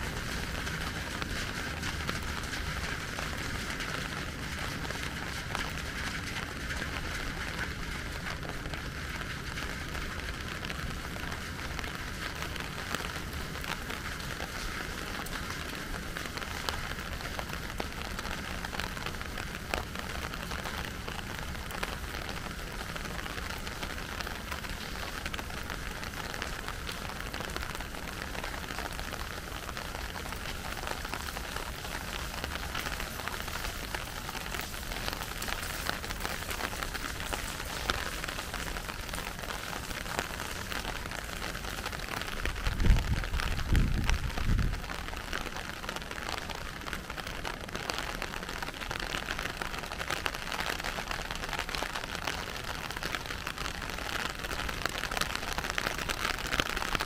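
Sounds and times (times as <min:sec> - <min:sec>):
raindrops ticking: 0:00.0 - 0:57.0
steady rain hiss: 0:00.0 - 0:57.0.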